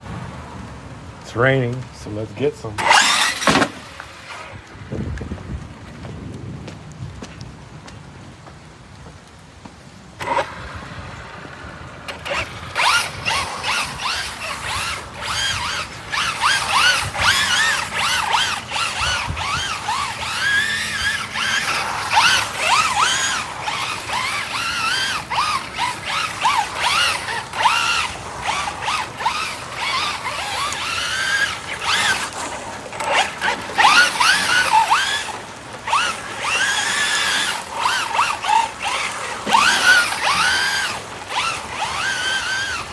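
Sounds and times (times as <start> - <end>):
electric motor whining: 1.8 - 4.8, 10.2 - 42.9.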